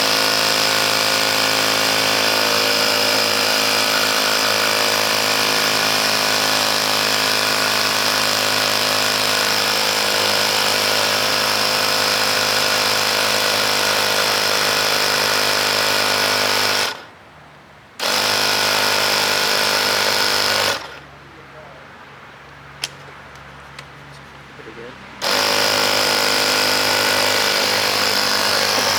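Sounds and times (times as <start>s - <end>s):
air compressor motor buzzing: 0.0s - 17.1s, 18.0s - 21.1s, 25.2s - 28.9s.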